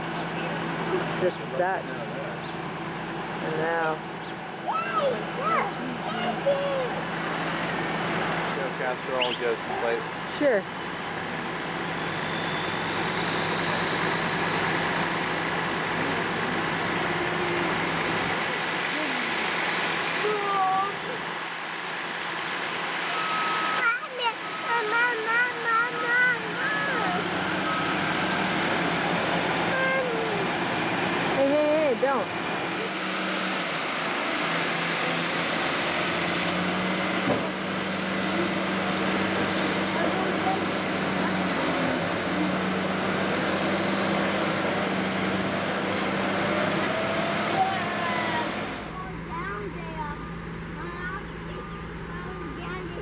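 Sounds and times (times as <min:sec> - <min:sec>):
heavy diesel engines under load: 0:00.0 - 0:53.0.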